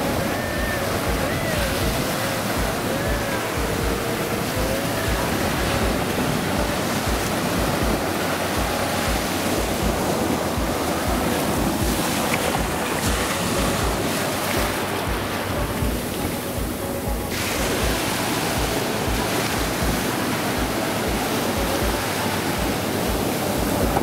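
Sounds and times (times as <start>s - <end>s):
surf washing over wet sand: 0.0s - 24.0s
wind buffeting microphone: 0.0s - 24.0s.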